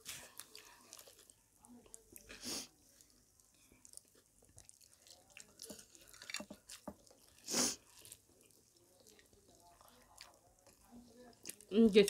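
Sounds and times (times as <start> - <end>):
wet chewing and mixing food: 0.0 - 12.0.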